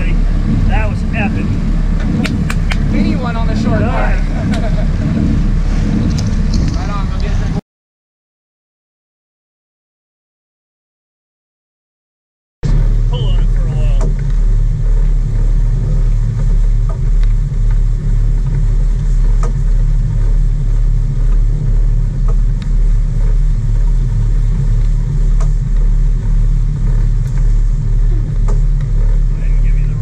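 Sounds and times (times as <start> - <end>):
boat engines droning: 0.0 - 7.6, 12.6 - 30.0.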